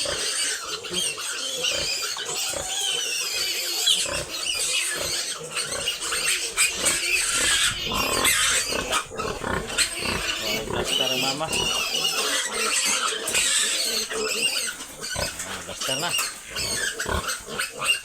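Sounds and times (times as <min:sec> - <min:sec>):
piglets squealing: 0:00.0 - 0:18.0.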